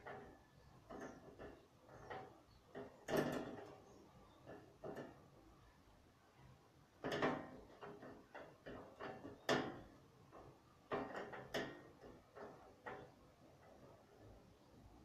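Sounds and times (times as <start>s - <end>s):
soft clatter of objects: 0.0s - 15.0s.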